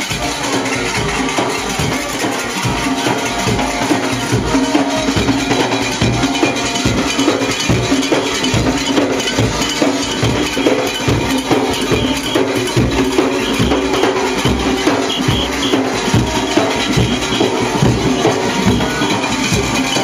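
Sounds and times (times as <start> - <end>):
hand drums beating fast: 0.0 - 20.0
hand percussion clattering: 0.0 - 20.0.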